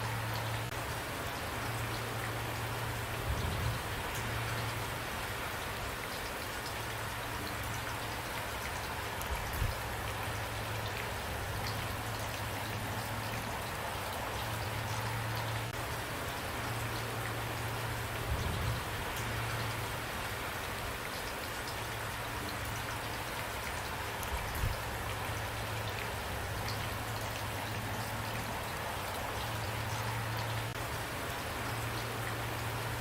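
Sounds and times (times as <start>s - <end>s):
rain drops ticking: 0.0s - 33.0s.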